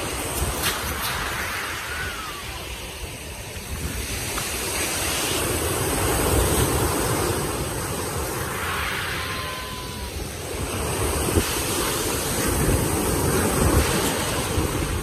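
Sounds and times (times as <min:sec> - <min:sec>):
waves washing up shingle beach: 0:00.0 - 0:15.0
wind on microphone: 0:00.0 - 0:15.0.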